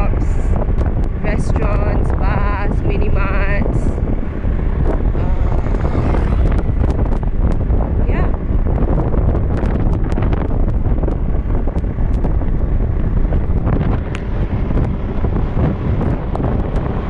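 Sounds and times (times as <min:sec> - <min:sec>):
motorbike engine: 0:00.0 - 0:17.0
road noise: 0:00.0 - 0:17.0
wind buffeting microphone: 0:00.0 - 0:17.0.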